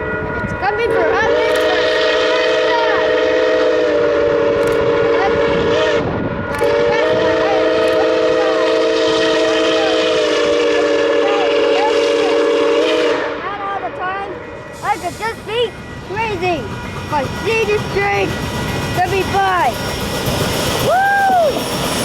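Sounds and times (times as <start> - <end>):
steam locomotive chime whistle: 0.0 - 22.0.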